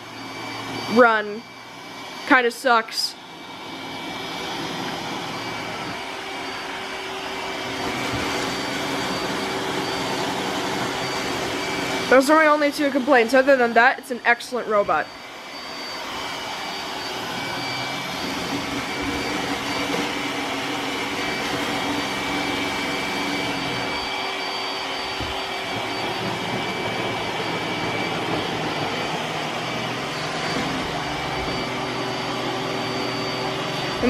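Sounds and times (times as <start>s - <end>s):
robot vacuum running: 0.0s - 34.0s.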